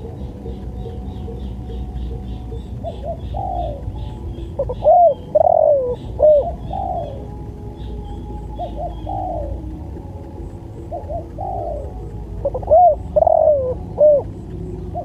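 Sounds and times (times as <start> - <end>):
dove cooing: 0.0 - 15.0
small bird chirping: 0.0 - 15.0.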